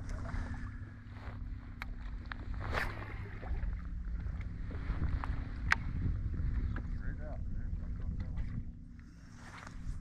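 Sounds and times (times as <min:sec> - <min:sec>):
low wind rumble on microphone: 0:00.0 - 0:10.0.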